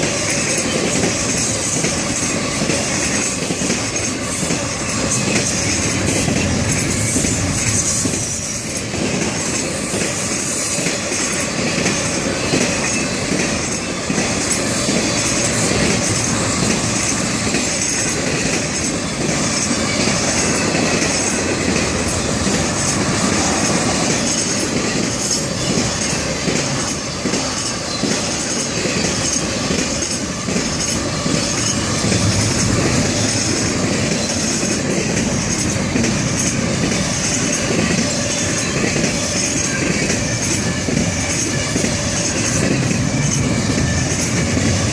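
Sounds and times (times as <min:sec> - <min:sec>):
steel wheels rolling on rail: 0:00.0 - 0:44.9.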